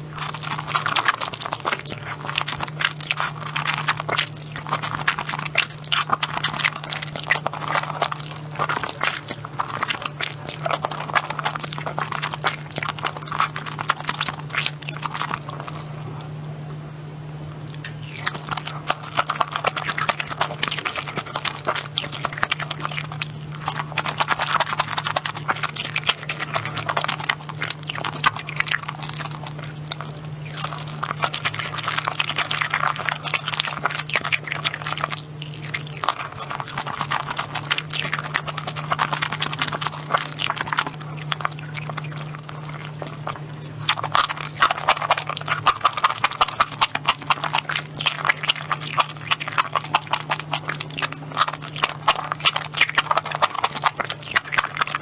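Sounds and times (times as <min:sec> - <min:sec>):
chewing and crunching food: 0:00.0 - 0:16.4, 0:17.4 - 0:55.0
steady low hum: 0:00.0 - 0:55.0.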